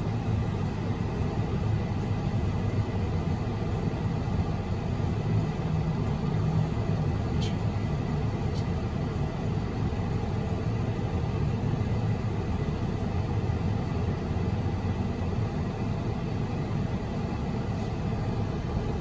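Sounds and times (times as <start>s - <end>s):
low vehicle rumble in cabin: 0.0s - 19.0s.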